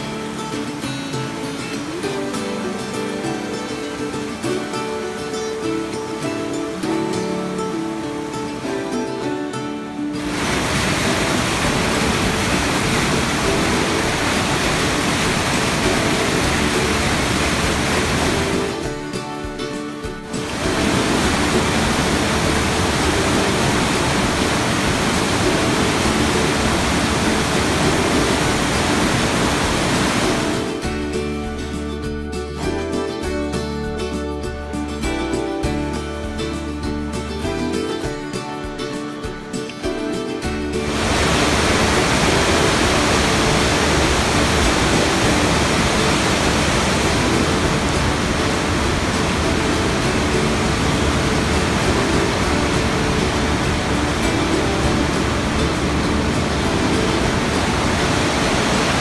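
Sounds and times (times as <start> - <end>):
river rapids roaring: 0.0 - 33.3, 38.9 - 59.0
background music: 0.0 - 59.0.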